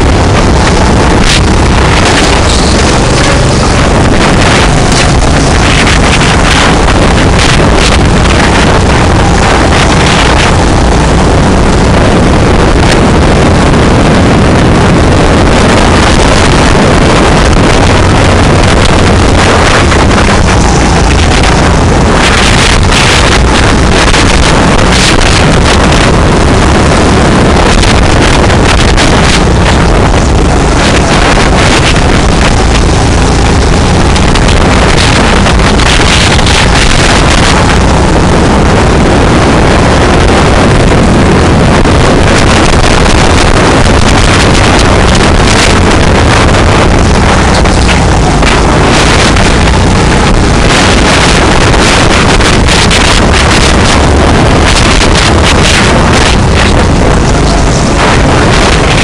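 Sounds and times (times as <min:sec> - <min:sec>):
go-kart engine running: 0:00.0 - 0:59.0
wind buffeting microphone: 0:00.0 - 0:59.0.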